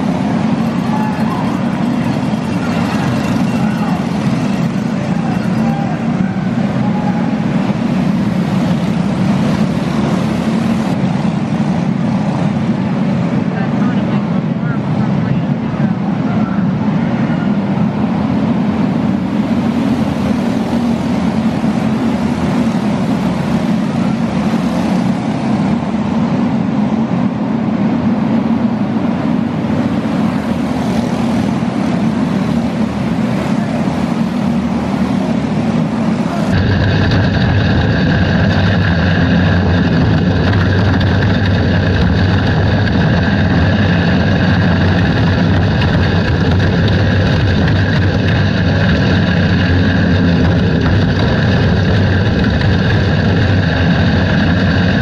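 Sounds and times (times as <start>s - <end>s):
kart engine droning: 0.0s - 55.0s
karts racing engines din: 0.0s - 55.0s.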